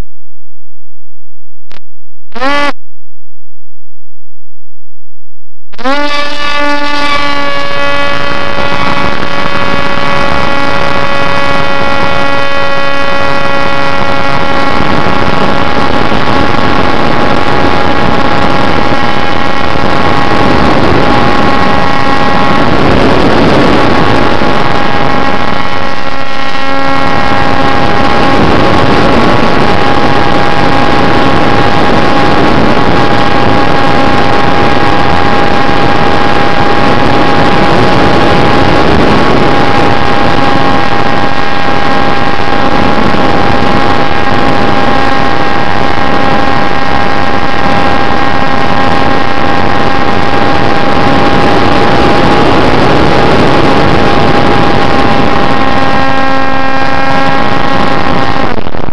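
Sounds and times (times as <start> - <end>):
model plane motor whine: 2.4 - 2.7, 5.8 - 58.9
rush of air noise: 5.8 - 58.9.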